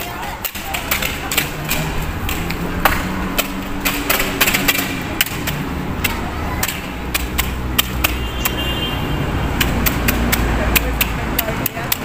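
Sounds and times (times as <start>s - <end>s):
street traffic rumble: 0.0s - 12.0s
sharp clicks and taps: 0.4s - 8.6s, 9.6s - 12.0s.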